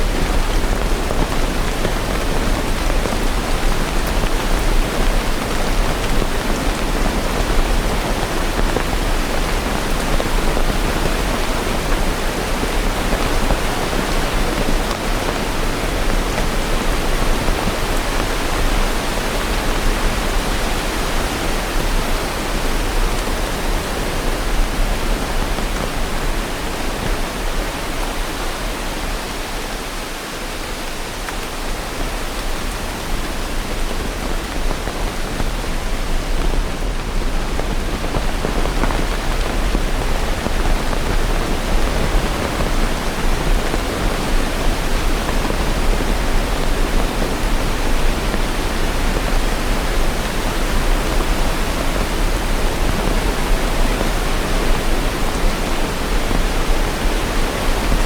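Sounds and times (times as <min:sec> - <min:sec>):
dense rain hiss: 0:00.0 - 0:58.0.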